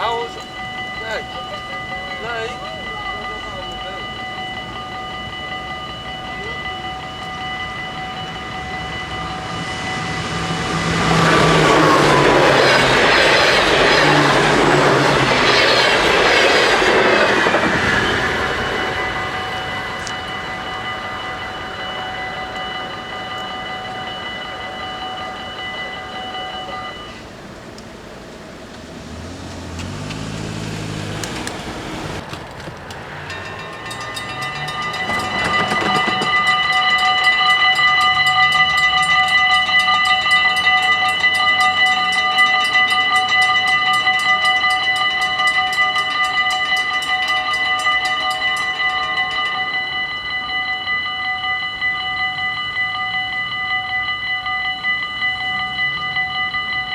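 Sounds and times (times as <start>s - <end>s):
level-crossing warning bells: 0.0s - 56.9s
train passing with low hum: 0.0s - 56.9s.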